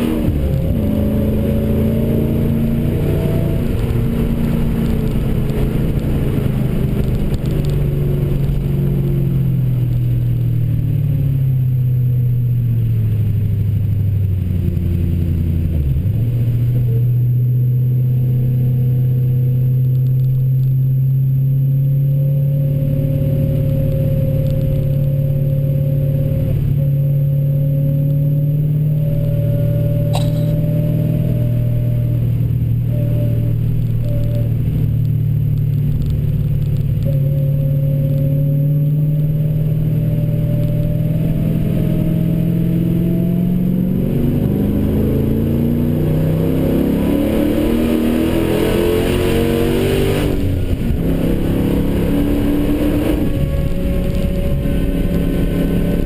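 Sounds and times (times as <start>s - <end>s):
car engine revving: 0.0s - 20.3s, 21.4s - 56.0s
road and wind noise: 0.0s - 56.0s.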